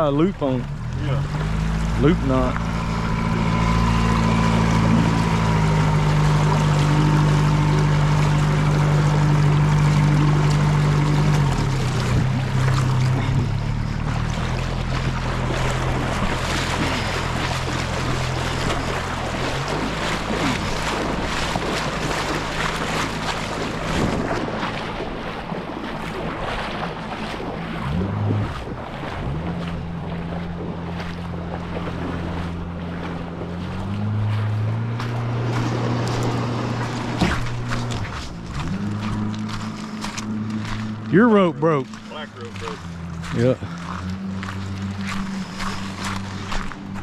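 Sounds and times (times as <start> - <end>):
boat motor running under load: 0.0 - 47.0
water churning: 0.0 - 47.0
wind buffeting microphone: 1.8 - 40.8.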